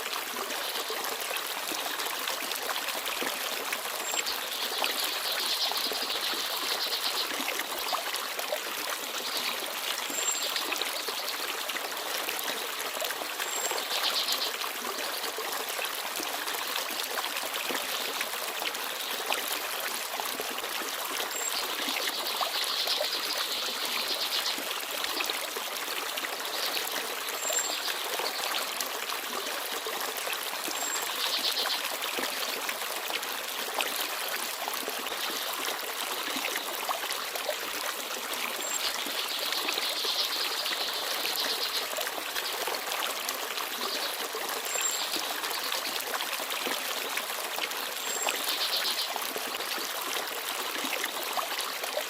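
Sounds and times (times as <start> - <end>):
stream babbling: 0.0 - 52.0.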